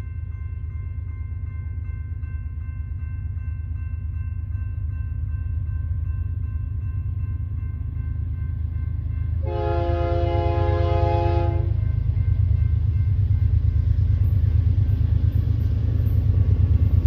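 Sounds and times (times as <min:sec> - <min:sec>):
distant diesel locomotive rumble: 0:00.0 - 0:17.0.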